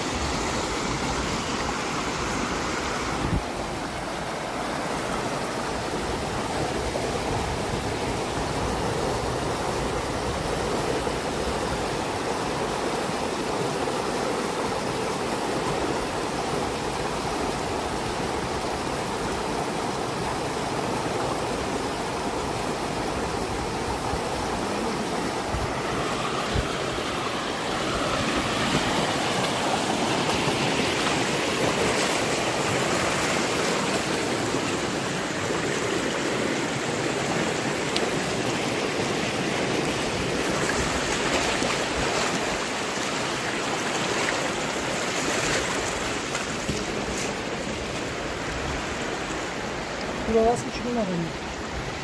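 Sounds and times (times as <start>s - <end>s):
river water rushing: 0.0s - 52.0s.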